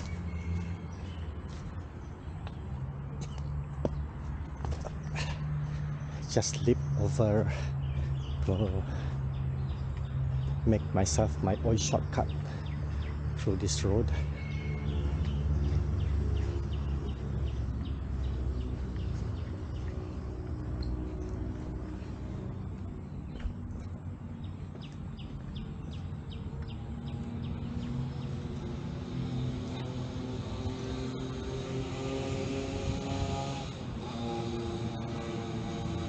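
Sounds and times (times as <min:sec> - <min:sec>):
vehicles passing on road: 0:00.0 - 0:36.0.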